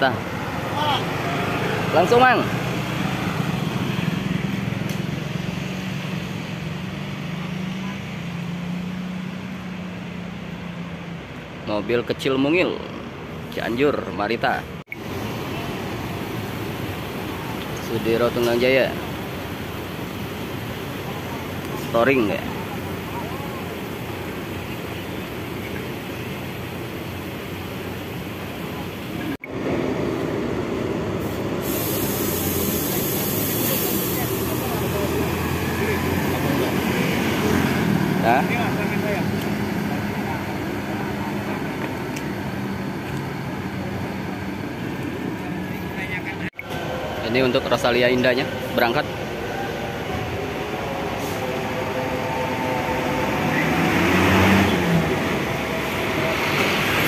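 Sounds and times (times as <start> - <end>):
bus engines running: 0.0 - 57.0
traffic rumble: 0.0 - 57.0.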